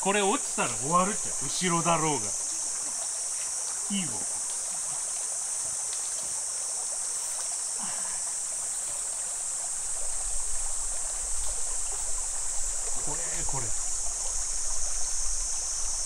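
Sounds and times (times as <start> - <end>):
creek babbling over rocks: 0.0 - 16.0.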